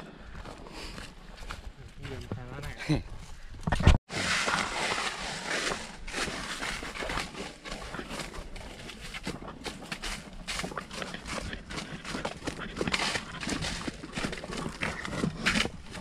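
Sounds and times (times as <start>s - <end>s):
footsteps crunching through dry leaves: 0.3s - 2.9s, 4.1s - 16.0s.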